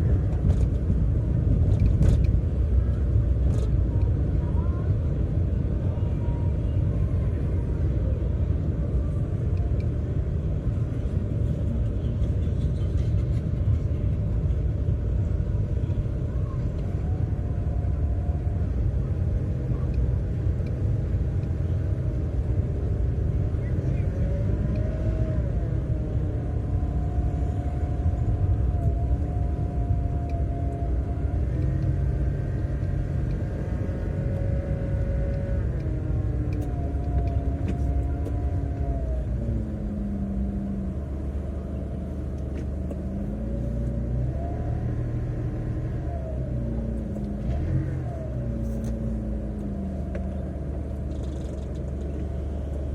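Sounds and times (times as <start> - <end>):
car road rumble: 0.0 - 52.9.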